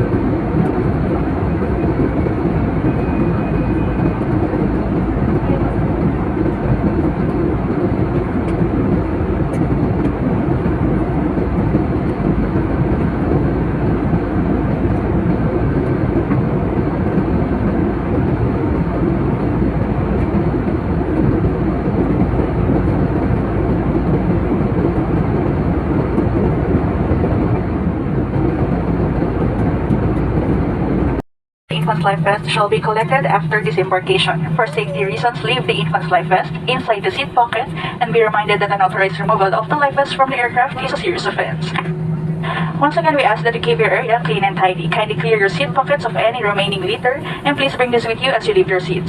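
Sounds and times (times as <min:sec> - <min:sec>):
airliner engine rumble in cabin: 0:00.0 - 0:49.0.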